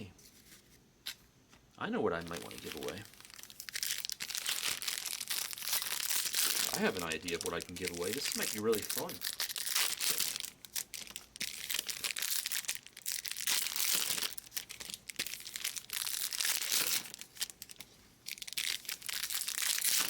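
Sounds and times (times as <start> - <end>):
plastic wrappers crinkling and tearing: 2.2 - 20.0.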